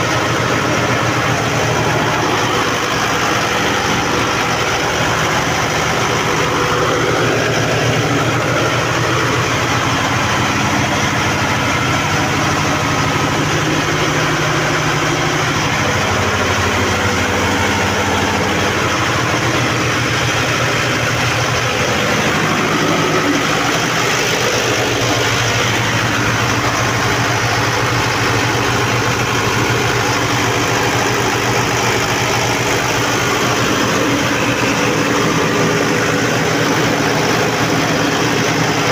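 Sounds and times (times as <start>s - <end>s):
diesel generator engine running: 0.0s - 38.9s.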